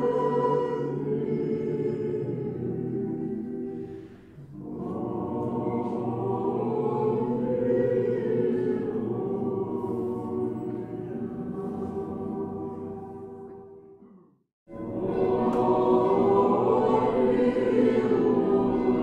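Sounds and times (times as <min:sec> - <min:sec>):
choir singing chant-like chords: 0:00.0 - 0:14.1, 0:14.7 - 0:19.0.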